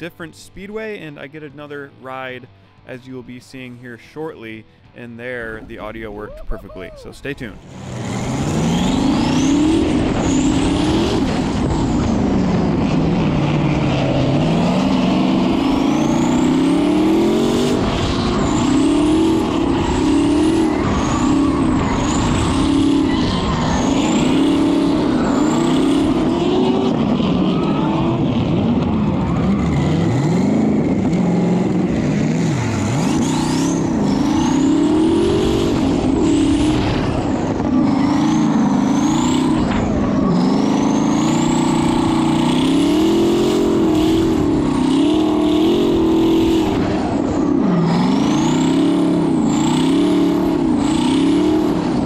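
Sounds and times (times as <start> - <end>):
car engine revving: 7.2 - 52.0.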